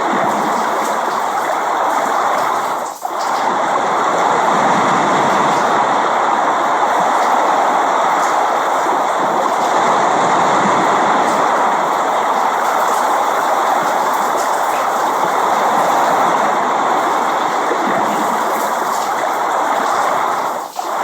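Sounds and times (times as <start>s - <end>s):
steady dense rain: 0.0s - 21.0s.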